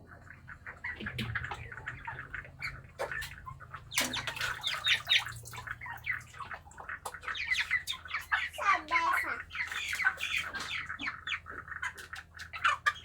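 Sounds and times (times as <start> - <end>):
chickens squawking and chirping: 0.0 - 13.0.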